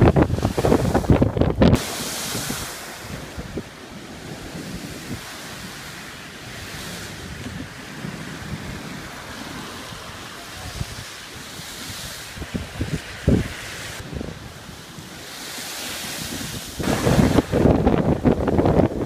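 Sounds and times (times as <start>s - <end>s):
waves breaking against a wall: 0.0s - 19.0s
wind buffeting microphone: 0.0s - 19.0s.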